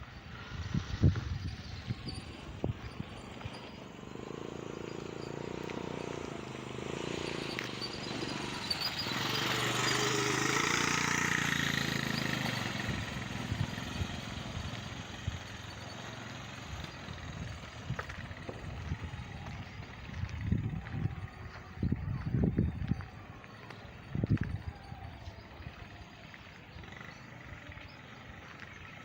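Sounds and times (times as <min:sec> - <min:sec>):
atv engine driving past: 0:00.0 - 0:29.0.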